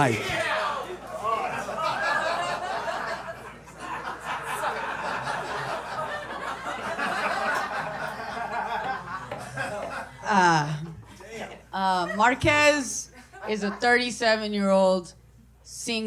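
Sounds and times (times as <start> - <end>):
audience laughing: 0.0 - 14.1.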